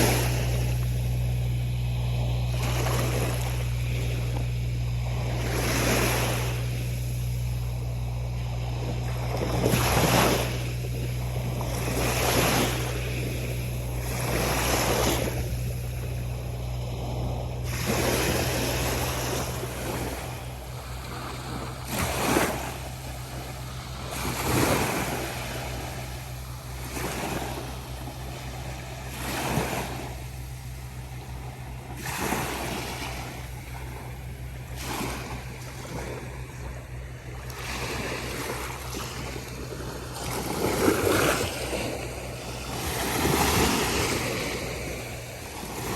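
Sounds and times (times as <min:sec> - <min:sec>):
ocean waves on sandy beach: 0:00.0 - 0:45.9.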